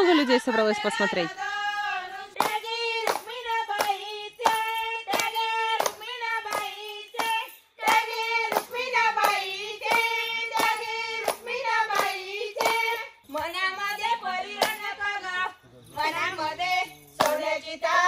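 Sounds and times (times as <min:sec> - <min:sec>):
high voices singing in unison: 0:00.0 - 0:18.0
rhythmic hand clapping: 0:01.7 - 0:18.0.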